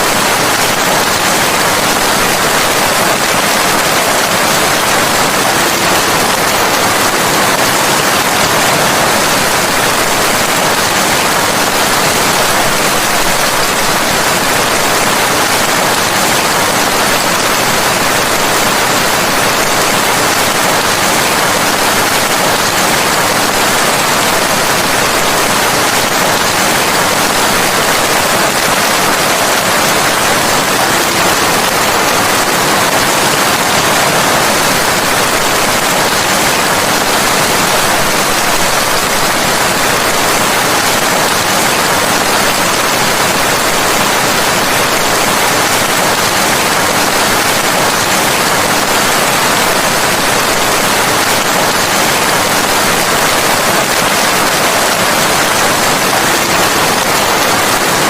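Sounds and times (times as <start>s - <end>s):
dense rain falling: 0.0s - 58.0s.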